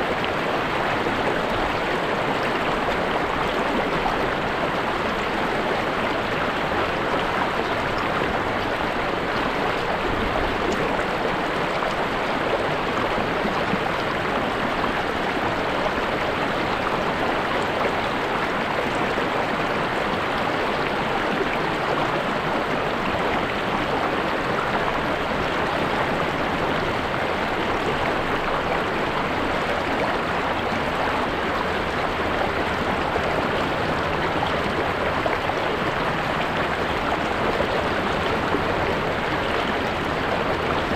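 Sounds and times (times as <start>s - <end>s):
river water running over rocks: 0.0s - 40.9s.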